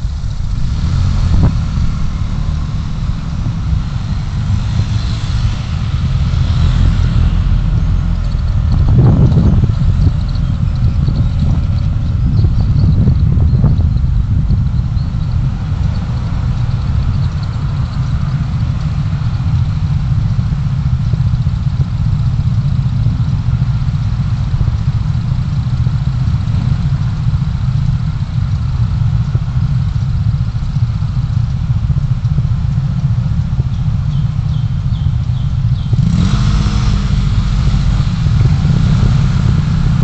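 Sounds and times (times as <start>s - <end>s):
car engine rumble: 0.0s - 40.0s
road noise: 0.0s - 40.0s.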